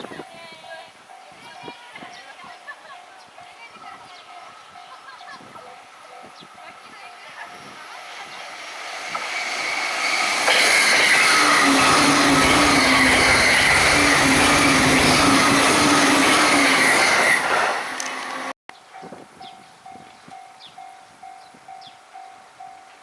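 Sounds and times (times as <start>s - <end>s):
electric train passing at high speed: 0.0s - 23.0s.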